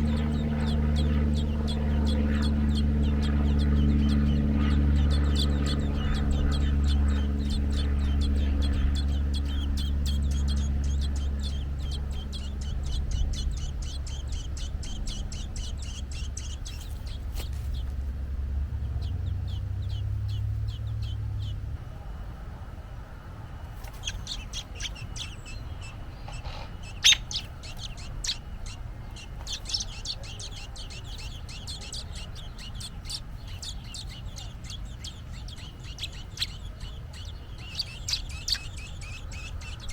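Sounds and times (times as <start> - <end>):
bird chirping: 0.0 - 21.8, 23.8 - 39.9
low steady hum: 0.0 - 39.9.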